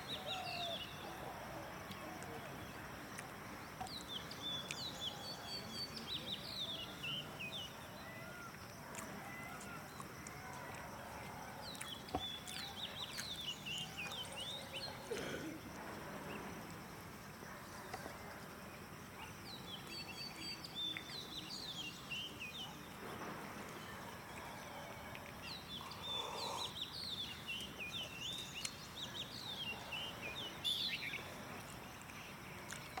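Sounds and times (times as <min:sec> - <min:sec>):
outdoor background noise: 0:00.0 - 0:33.0
songbird twittering chirps: 0:01.8 - 0:10.9, 0:11.6 - 0:16.6, 0:19.2 - 0:33.0.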